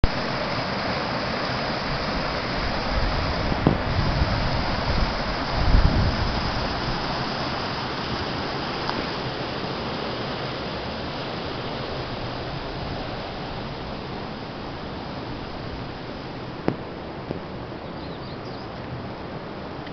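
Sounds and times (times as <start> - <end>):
stream rushing over boulders: 0.0 - 19.9.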